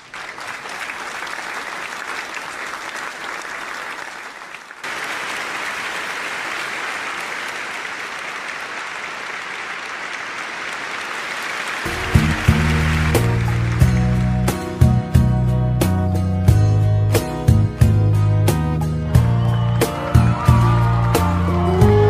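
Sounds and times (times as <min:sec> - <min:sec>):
audience applauding: 0:00.0 - 0:15.0, 0:19.0 - 0:22.0.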